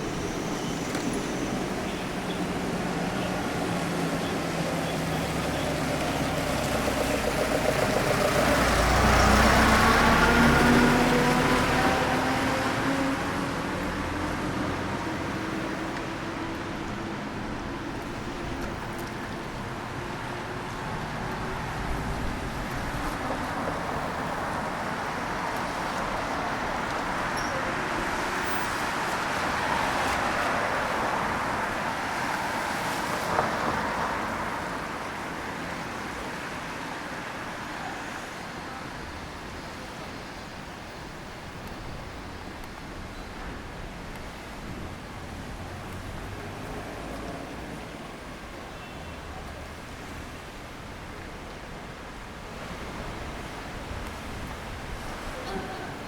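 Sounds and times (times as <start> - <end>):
tyres hissing on wet road: 0.0 - 56.0.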